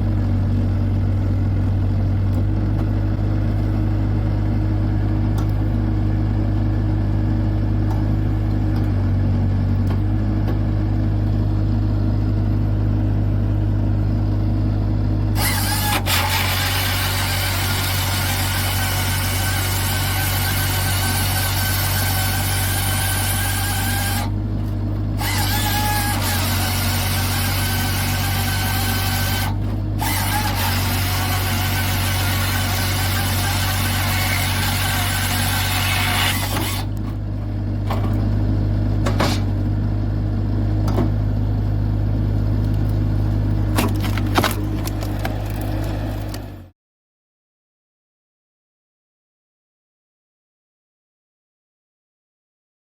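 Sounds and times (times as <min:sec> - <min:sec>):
machine engine humming: 0:00.0 - 0:46.7.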